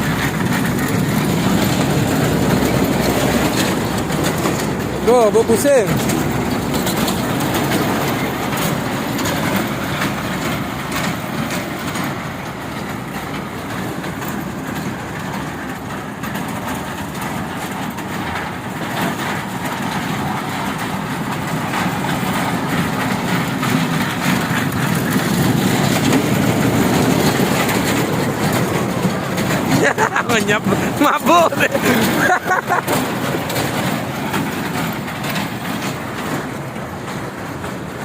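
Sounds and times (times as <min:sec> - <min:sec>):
train rumbling and rattling: 0:00.0 - 0:38.0.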